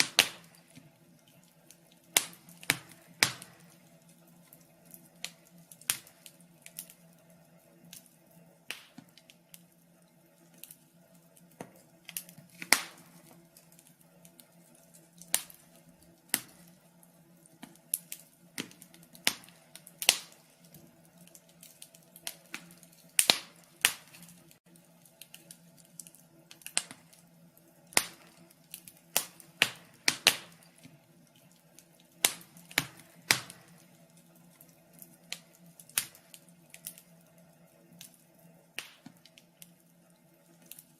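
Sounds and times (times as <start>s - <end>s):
fire popping and snapping: 0.0s - 40.9s.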